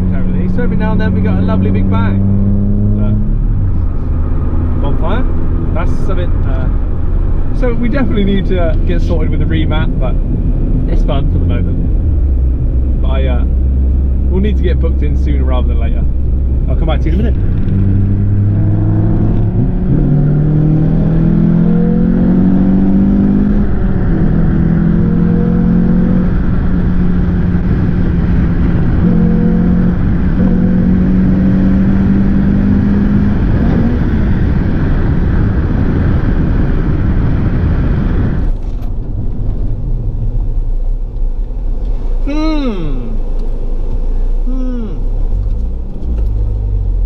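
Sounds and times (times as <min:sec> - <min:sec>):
car engine accelerating: 0:00.0 - 0:47.0
road noise: 0:00.0 - 0:47.0.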